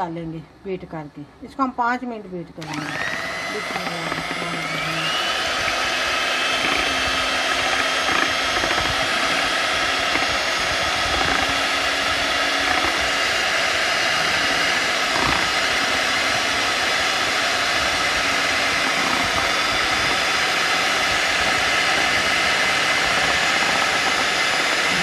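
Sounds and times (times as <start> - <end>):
electric hand mixer whining: 2.6 - 25.0.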